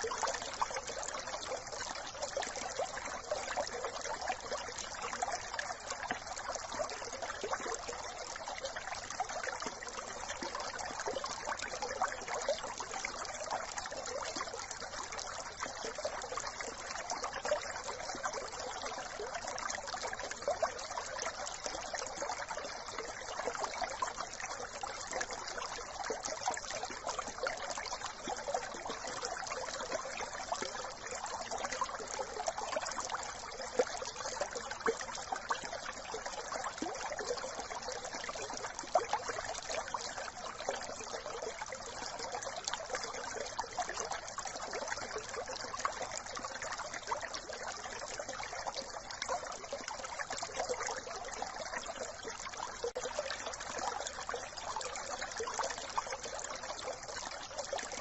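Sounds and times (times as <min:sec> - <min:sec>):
brook water babbling: 0:00.0 - 0:58.0
small water splashes: 0:00.0 - 0:58.0.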